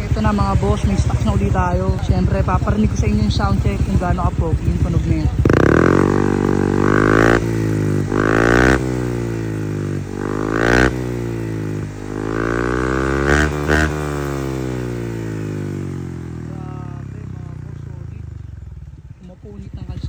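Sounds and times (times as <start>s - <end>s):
exhaust pops: 0.0s - 20.0s
scooter engine revving: 0.0s - 20.0s.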